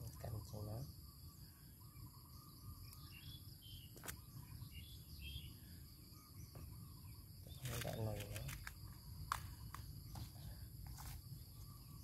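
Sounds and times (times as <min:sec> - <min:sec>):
bird chirps: 0:00.0 - 0:12.0
insects trilling: 0:00.0 - 0:12.0.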